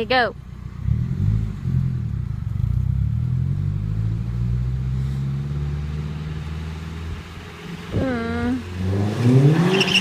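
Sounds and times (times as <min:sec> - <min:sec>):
car engine under throttle: 0:00.0 - 0:10.0.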